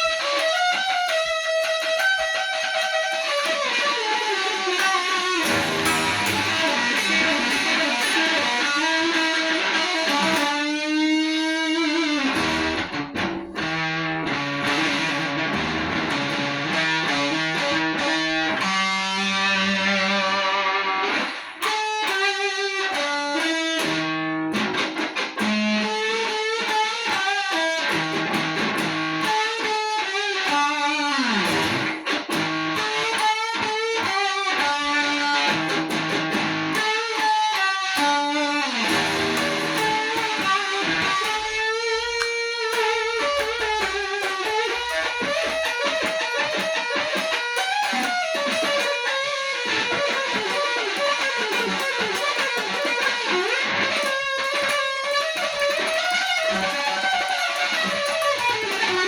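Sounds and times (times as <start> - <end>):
electric guitar solo: 0.0 - 59.0.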